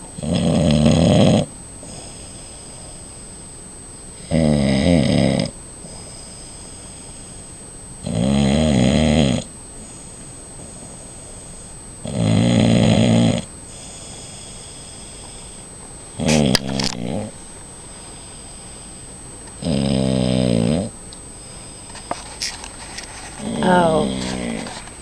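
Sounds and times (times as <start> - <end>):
man snoring: 0.2 - 3.5, 4.2 - 22.1, 23.4 - 24.8.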